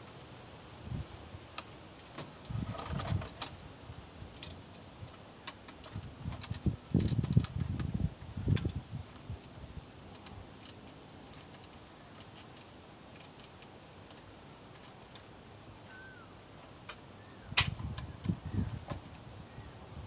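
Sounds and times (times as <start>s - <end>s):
faint high-pitched whine: 0.0s - 20.0s.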